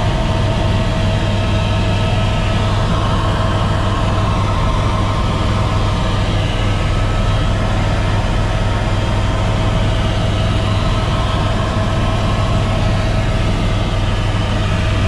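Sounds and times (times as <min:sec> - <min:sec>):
helicopter drone from cabin: 0:00.0 - 0:15.0.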